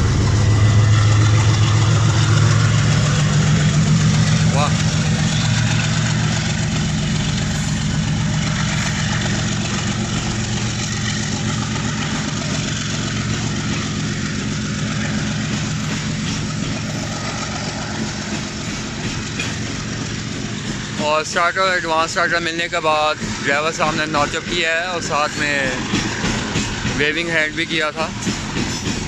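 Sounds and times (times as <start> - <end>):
diesel locomotive engine throbbing: 0.0 - 29.0
wagons rolling on rails: 0.0 - 29.0.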